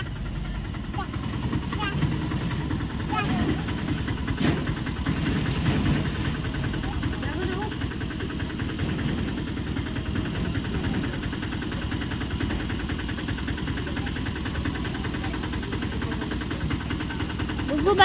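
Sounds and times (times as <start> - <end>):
auto-rickshaw engine idling: 0.0 - 18.0.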